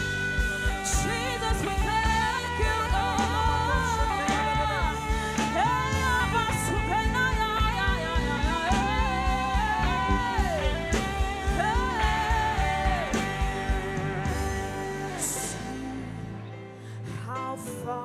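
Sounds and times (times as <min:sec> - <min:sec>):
worship band accompaniment: 0:00.0 - 0:17.3
person singing wordless phrases: 0:00.0 - 0:18.0.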